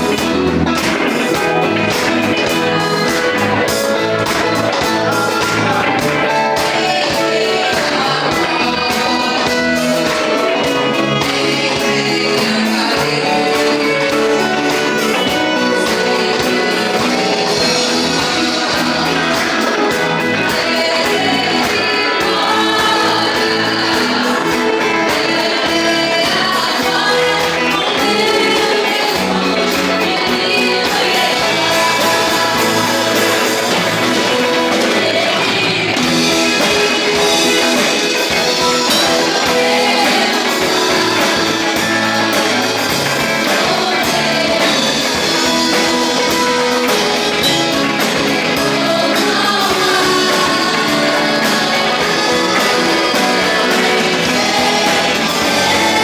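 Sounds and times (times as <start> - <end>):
gospel band playing: 0.0 - 56.0
voices singing: 0.0 - 56.0.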